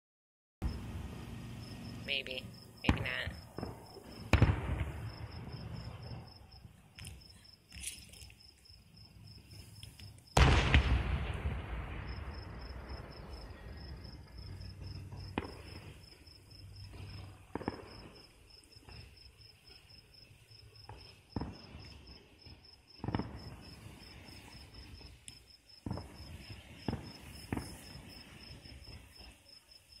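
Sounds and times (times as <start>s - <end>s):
crickets chirping: 0.6s - 10.4s, 11.5s - 30.0s
fireworks bursting in the distance: 0.6s - 30.0s.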